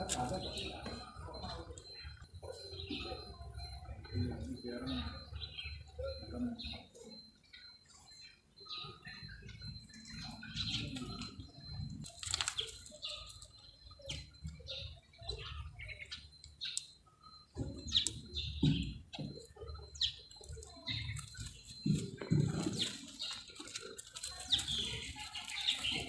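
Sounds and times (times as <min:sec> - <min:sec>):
small animals chirping and squeaking: 0:00.0 - 0:26.0.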